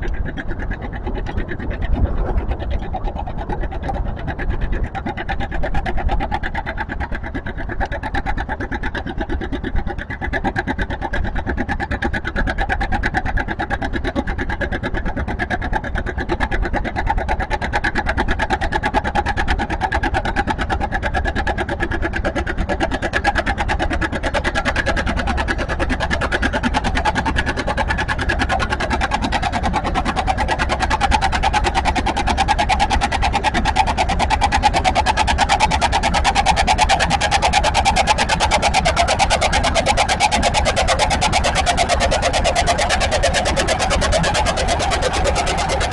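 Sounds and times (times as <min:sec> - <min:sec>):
tractor engine under load: 0:00.0 - 0:45.9.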